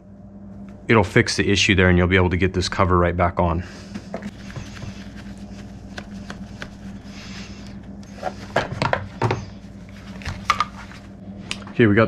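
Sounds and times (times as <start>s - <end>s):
low shop hum: 0.0s - 12.0s.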